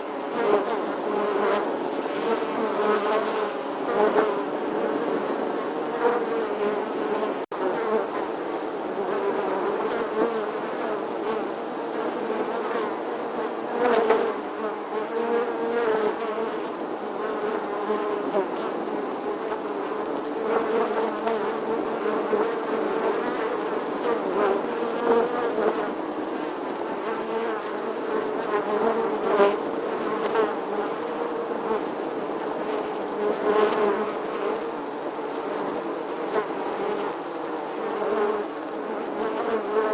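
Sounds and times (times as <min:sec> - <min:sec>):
bee buzzing: 0:00.0 - 0:39.9.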